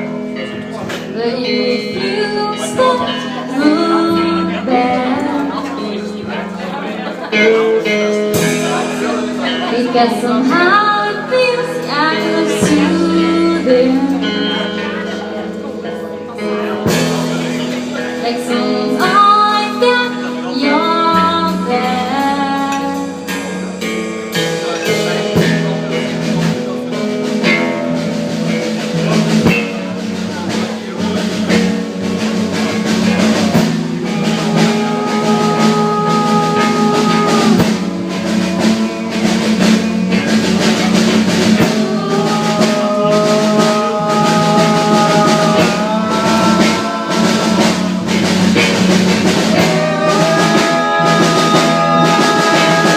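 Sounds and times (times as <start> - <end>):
held lead guitar notes: 0.0 - 52.9
live rock band playing: 0.0 - 52.9.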